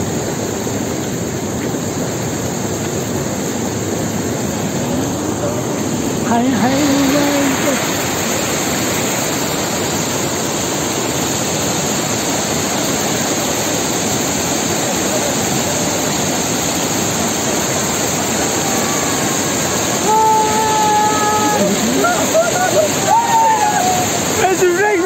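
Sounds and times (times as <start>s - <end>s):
mountain stream rushing: 0.0s - 25.0s.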